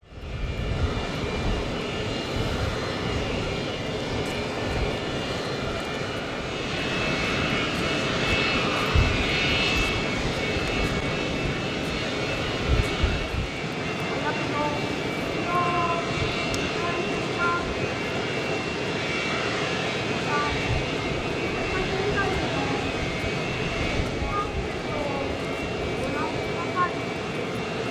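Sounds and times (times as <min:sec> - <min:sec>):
jet engines whining and rumbling: 0:00.0 - 0:27.9.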